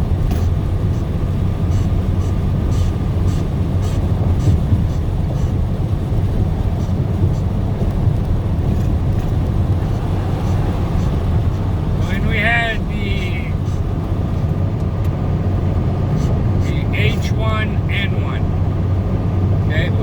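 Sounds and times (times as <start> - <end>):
road noise: 0.0 - 20.0
truck engine rumble: 0.0 - 20.0.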